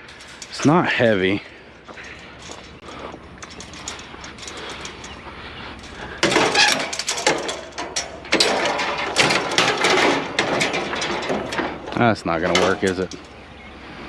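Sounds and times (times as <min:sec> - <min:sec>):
scrap metal clattering and scraping: 0:00.0 - 0:13.4.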